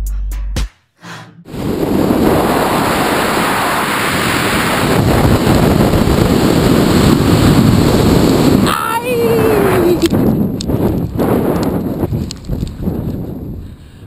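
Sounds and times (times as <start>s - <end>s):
wind rushing over microphone: 1.5s - 14.0s.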